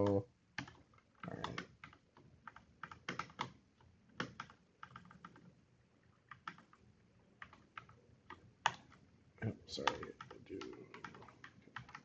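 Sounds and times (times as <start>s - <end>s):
keyboard typing: 0.0s - 12.0s.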